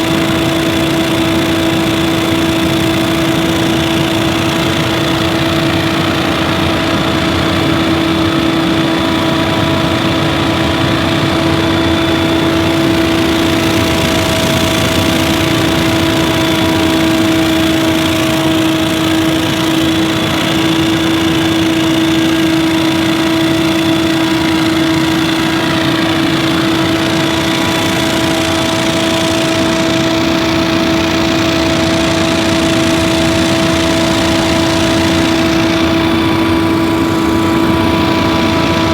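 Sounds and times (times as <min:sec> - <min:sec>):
leaf blower running: 0:00.0 - 0:38.9.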